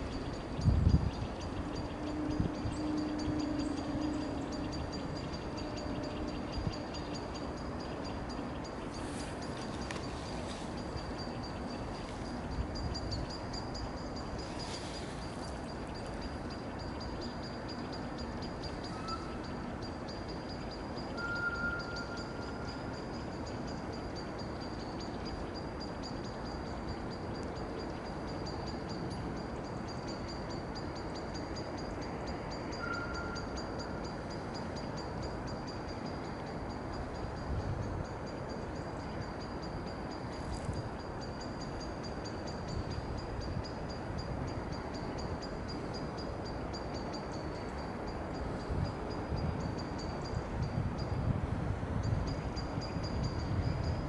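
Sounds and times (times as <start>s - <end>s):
thin high-pitched whine: 0.0s - 51.3s
outdoor park ambience: 0.0s - 54.0s.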